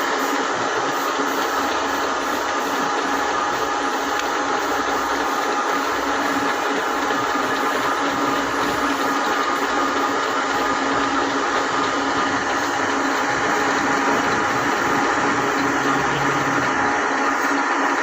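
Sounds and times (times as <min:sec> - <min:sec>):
metal lathe whirring hum: 0:00.0 - 0:18.0.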